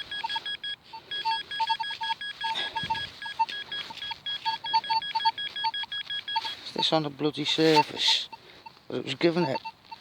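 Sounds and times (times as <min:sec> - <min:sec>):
metal detector beeping: 0:00.0 - 0:10.0.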